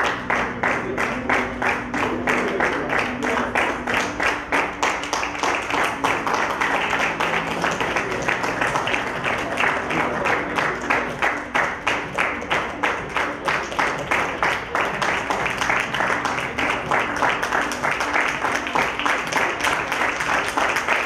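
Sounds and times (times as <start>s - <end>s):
crowd clapping in time: 0.0s - 21.0s
faint music: 0.0s - 21.0s.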